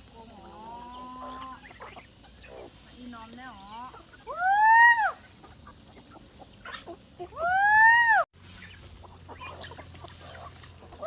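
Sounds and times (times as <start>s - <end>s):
chicken clucking: 0.1s - 4.4s, 5.2s - 7.4s, 8.5s - 11.0s
chicken squawking: 0.4s - 2.9s, 3.5s - 11.0s.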